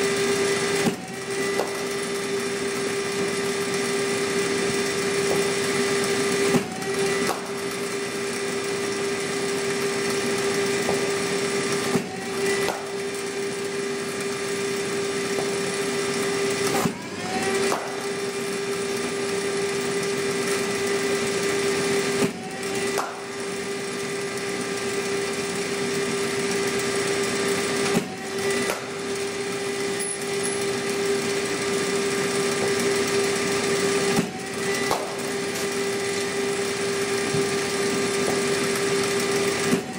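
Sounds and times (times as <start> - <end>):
bowling machine wheels whining: 0.0 - 39.9.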